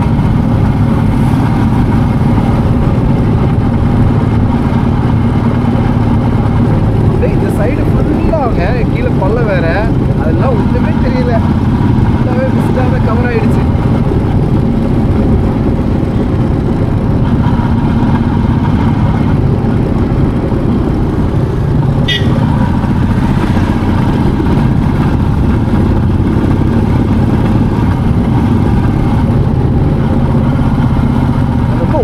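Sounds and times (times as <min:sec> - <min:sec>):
motorcycle engine running: 0:00.0 - 0:32.0
wind on microphone: 0:00.0 - 0:32.0.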